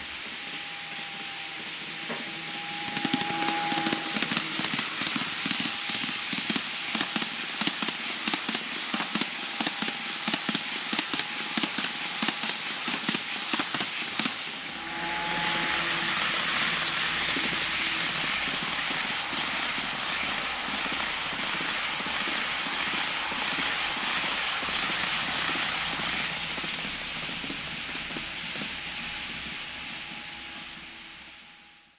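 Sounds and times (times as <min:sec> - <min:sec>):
model locomotive noise with rumble: 0:00.0 - 0:31.9.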